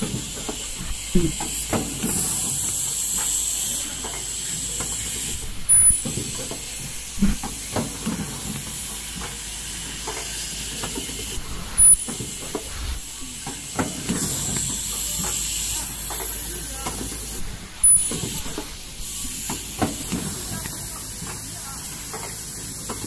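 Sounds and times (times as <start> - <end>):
loud machine bursts: 0.0 - 7.5, 9.7 - 10.2, 11.8 - 22.3
machine hissing: 0.0 - 23.0
pneumatic parts clicking and knocking: 0.0 - 23.0.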